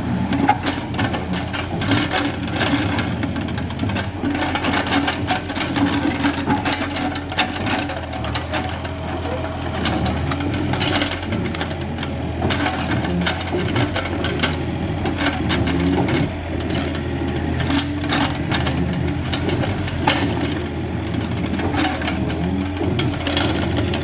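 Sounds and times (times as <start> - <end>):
bucket clanks and scrapes: 0.0 - 24.0
excavator engine humming: 0.0 - 24.0.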